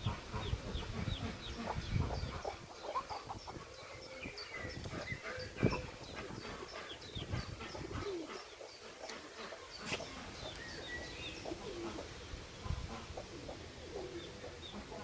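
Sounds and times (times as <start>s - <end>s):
chicks peeping: 0.0s - 12.1s.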